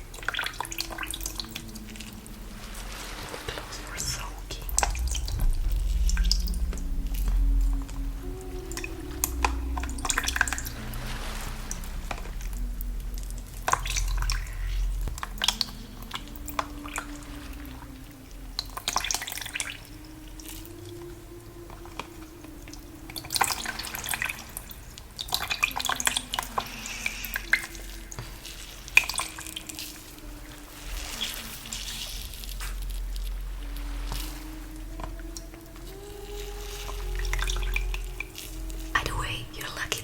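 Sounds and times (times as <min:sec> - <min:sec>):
water dripping and splashing: 0:00.0 - 0:40.0
woman humming softly: 0:00.1 - 0:24.6, 0:25.3 - 0:40.0.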